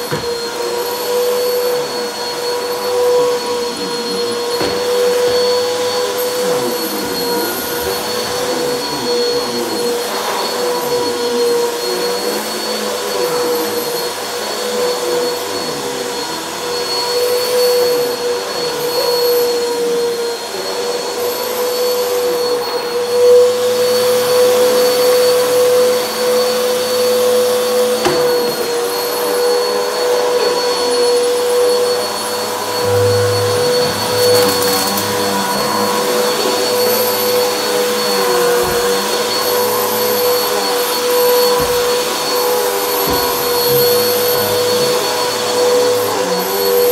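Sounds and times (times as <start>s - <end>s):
vacuum cleaner running over rug: 0.0s - 46.9s.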